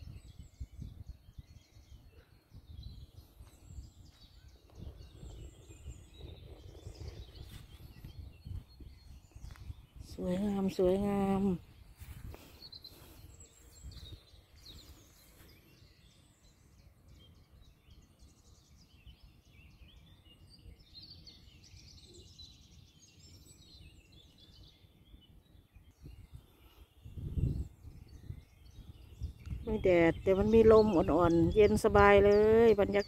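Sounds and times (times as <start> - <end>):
songbirds chirping: 0.0 - 33.0
wind rumbling on microphone: 0.0 - 33.0.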